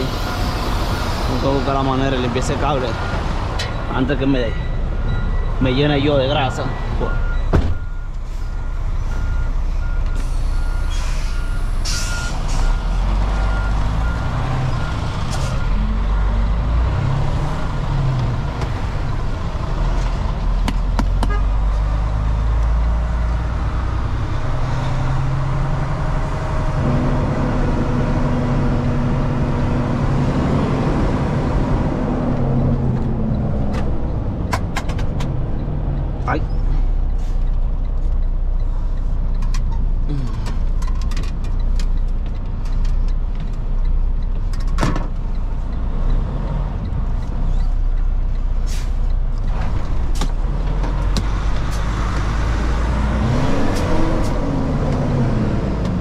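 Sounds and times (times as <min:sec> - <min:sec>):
diesel truck engine rumbling: 0:00.0 - 0:56.0.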